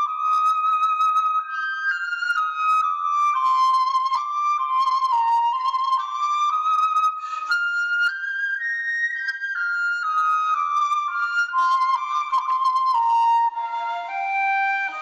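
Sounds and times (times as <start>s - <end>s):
flute melody: 0.0s - 15.0s.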